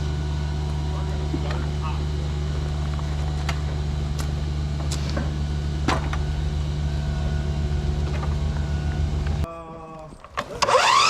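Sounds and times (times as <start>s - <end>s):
engine running low hum: 0.0s - 11.0s.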